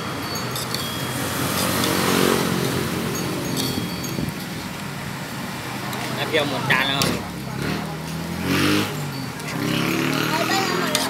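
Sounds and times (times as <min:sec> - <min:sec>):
vehicle engine passing by: 0:00.0 - 0:11.0.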